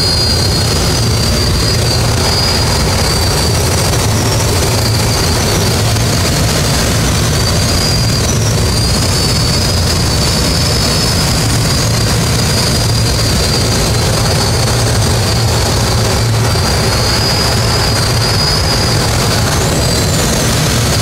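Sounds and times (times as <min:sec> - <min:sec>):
air rushing over cockpit: 0:00.0 - 0:21.0
high air whistle: 0:00.0 - 0:21.0
low plane engine drone: 0:00.0 - 0:21.0.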